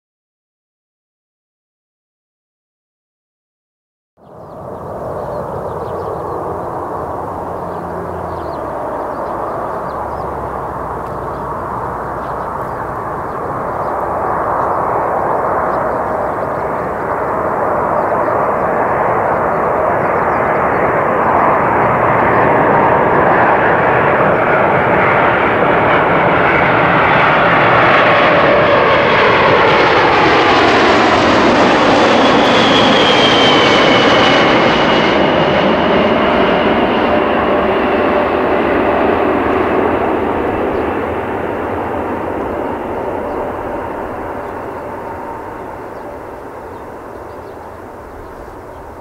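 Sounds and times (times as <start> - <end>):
jet engines roaring past: 4.2 - 49.0.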